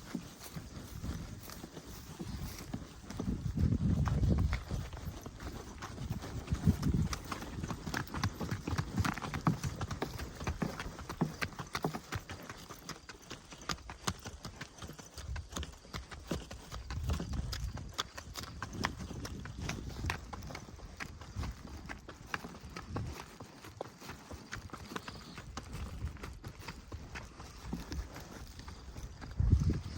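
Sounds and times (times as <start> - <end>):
footsteps on stony track: 0.0 - 29.9.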